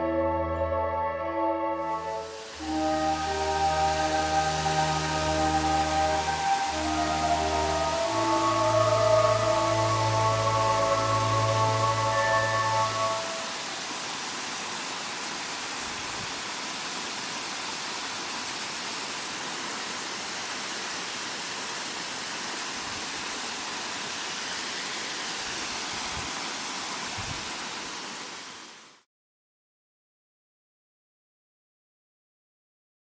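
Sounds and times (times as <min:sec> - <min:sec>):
waterfall rushing: 0:01.8 - 0:29.0.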